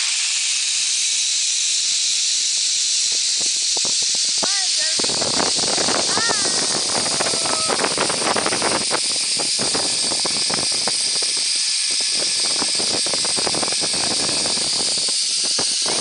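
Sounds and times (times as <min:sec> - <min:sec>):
crackles: 0:00.0 - 0:16.0
zipline trolley hissing on cable: 0:00.0 - 0:16.0.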